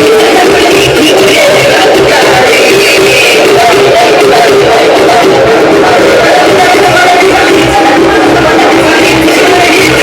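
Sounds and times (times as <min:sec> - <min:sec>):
loud music over sound system: 0:00.0 - 0:10.0.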